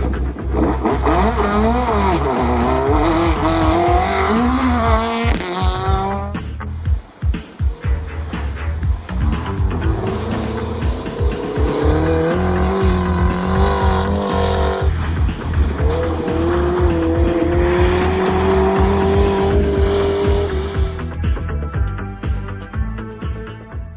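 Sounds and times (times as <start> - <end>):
second rally car engine: 0.0 - 6.7, 7.7 - 21.2
rally car engine revving: 0.0 - 6.8, 7.6 - 21.2
background music with steady beat: 0.0 - 23.9.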